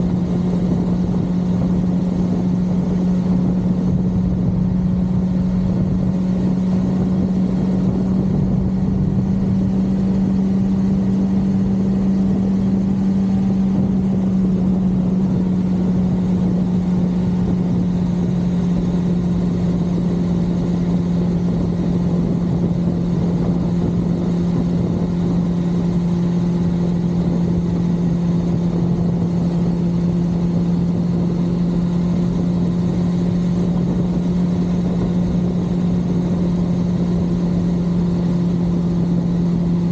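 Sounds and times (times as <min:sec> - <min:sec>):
motorcycle engine cruising: 0:00.0 - 0:39.9
wind and road rumble: 0:00.0 - 0:39.9.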